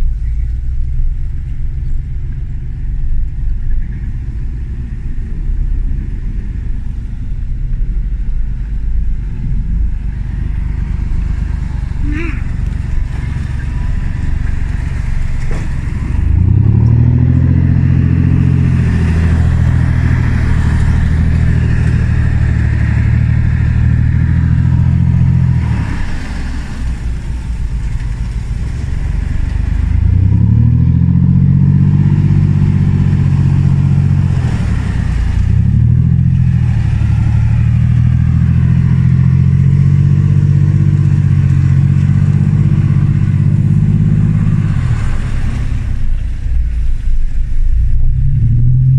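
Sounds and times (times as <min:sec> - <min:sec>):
diesel engine revving: 0:00.0 - 0:48.9.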